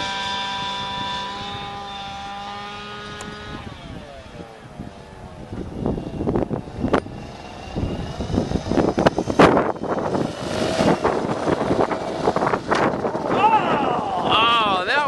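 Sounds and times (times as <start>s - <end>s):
model helicopter rotor whine: 0.0s - 15.0s
wind gusts on microphone: 0.0s - 15.0s.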